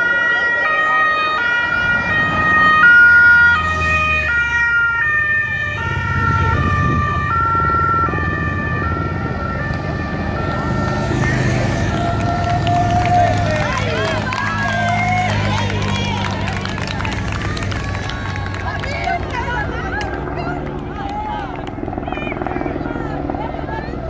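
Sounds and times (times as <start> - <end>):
passing motorcycles: 0.0 - 24.0.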